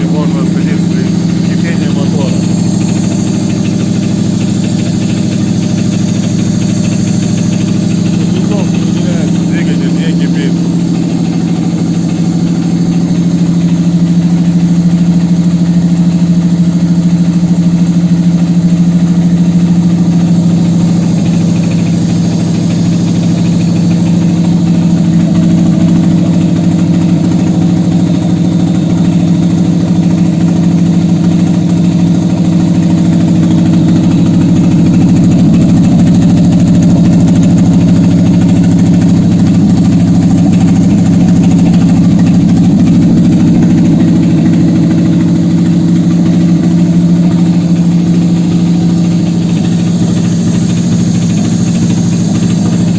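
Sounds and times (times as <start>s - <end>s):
car engine running: 0.0s - 52.9s.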